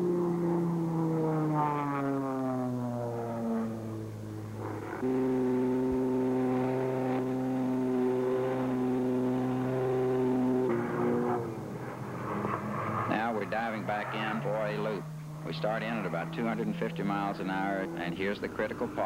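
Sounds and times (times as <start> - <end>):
engine drone inside cockpit: 0.0 - 19.0
propeller plane engines droning: 0.0 - 19.0.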